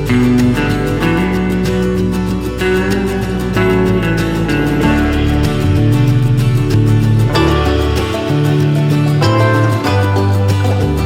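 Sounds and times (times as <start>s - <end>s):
strummed guitar music with beat: 0.0s - 11.0s.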